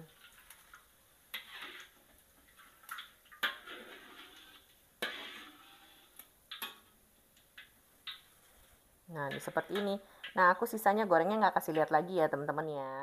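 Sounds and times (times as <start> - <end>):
oil dripping and sizzling: 0.0 - 10.9.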